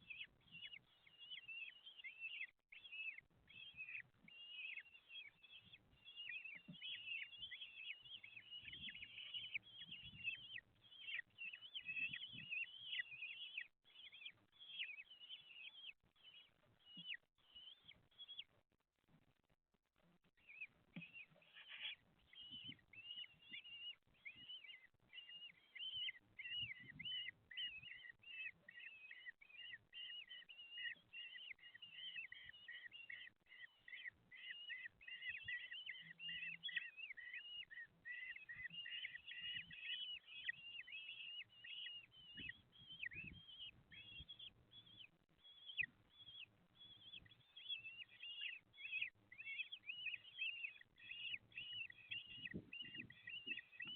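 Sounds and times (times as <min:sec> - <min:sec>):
bird chicks begging calls: 0:00.0 - 0:18.5, 0:20.4 - 0:53.9.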